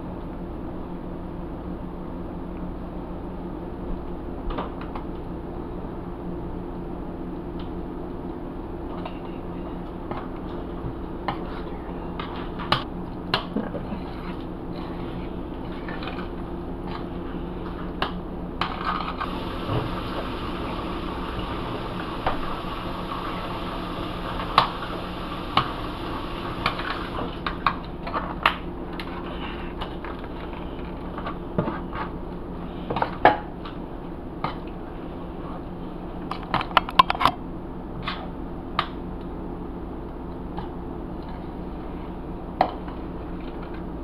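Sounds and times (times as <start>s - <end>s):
low hum: 0.0s - 36.4s.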